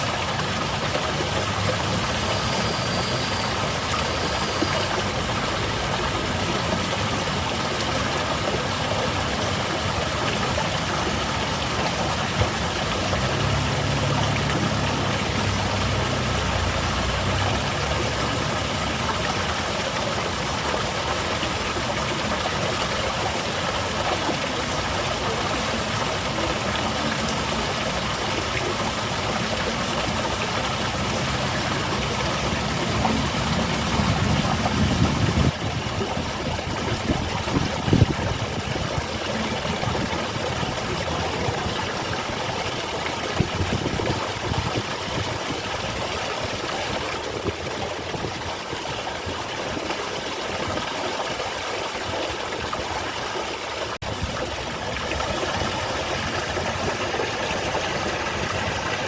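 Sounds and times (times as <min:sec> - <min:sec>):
water falling and splashing: 0:00.0 - 0:59.0.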